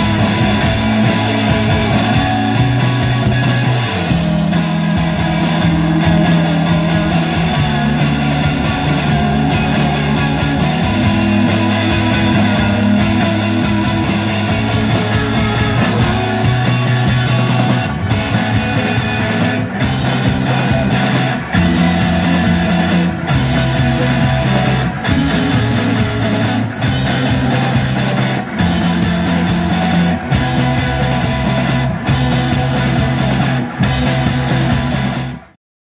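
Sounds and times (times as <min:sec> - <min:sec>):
heavy low bass line: 0:00.0 - 0:35.6
live rock band playing: 0:00.0 - 0:35.6.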